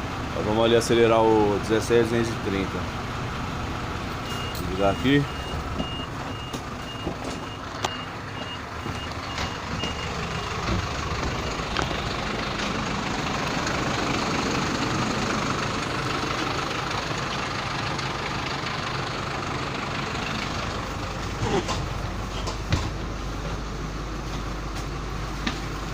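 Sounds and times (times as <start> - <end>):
diesel engine revving: 0.0 - 25.9.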